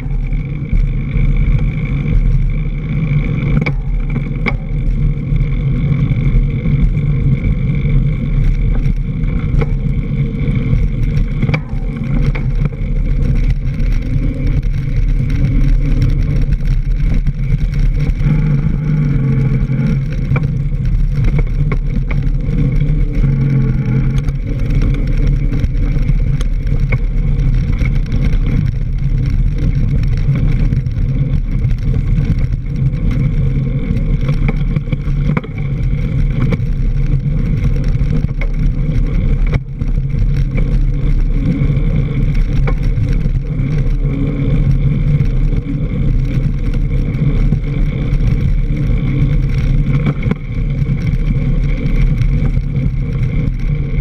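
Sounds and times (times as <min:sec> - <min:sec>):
bike tyre rumbling on dirt: 0:00.0 - 0:54.0
wind on microphone: 0:00.0 - 0:54.0.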